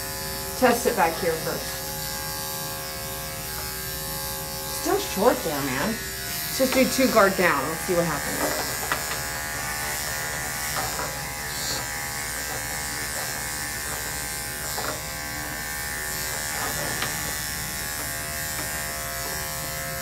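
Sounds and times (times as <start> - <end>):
electric hair clipper buzzing: 0.0 - 20.0.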